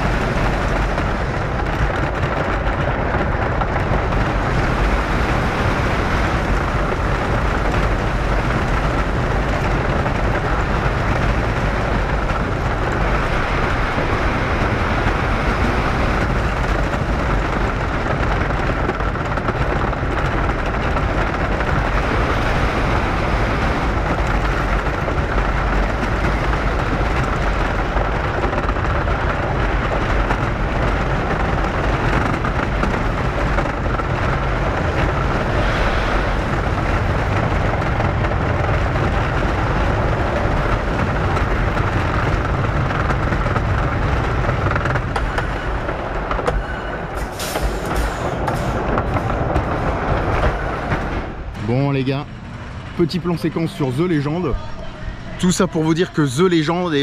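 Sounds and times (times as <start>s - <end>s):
roller coaster train rumbling: 0.0s - 57.0s.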